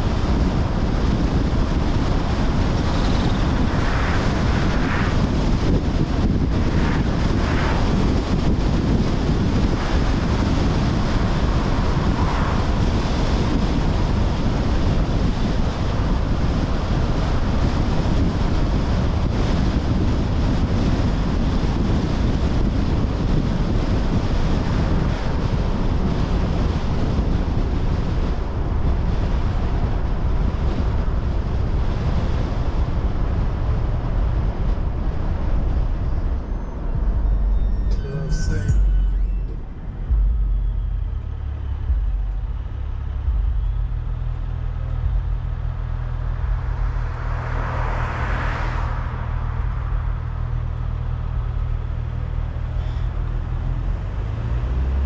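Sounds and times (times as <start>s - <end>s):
road and tyre rumble: 0.0s - 55.0s
wind rushing over microphone: 0.0s - 55.0s.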